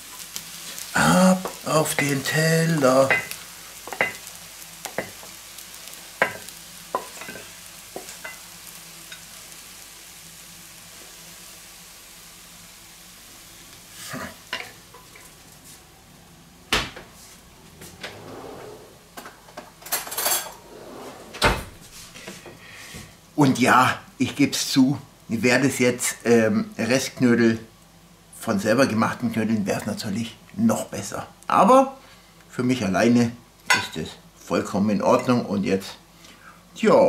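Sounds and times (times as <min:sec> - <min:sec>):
food sizzling in pan: 0:00.0 - 0:18.0, 0:18.7 - 0:36.2.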